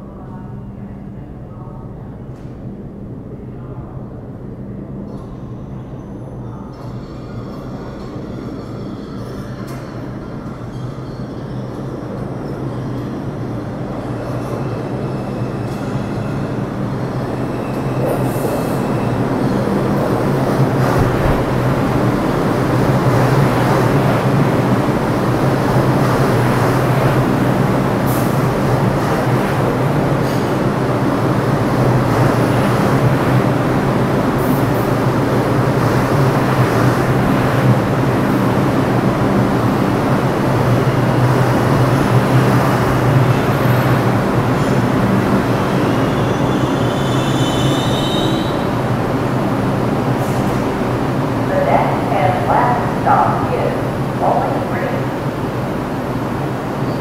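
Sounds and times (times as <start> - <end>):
subway train wheels and cars: 0.0 - 57.0.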